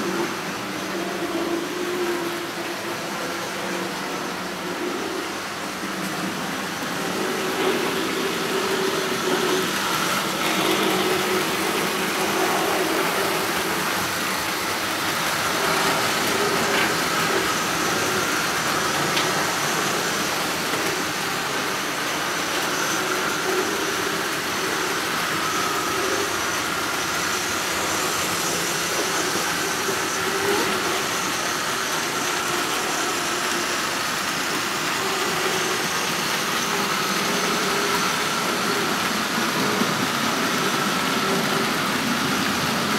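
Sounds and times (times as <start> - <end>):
model train motor hum: 0.0 - 42.9
wheels rumbling on track: 0.0 - 42.9.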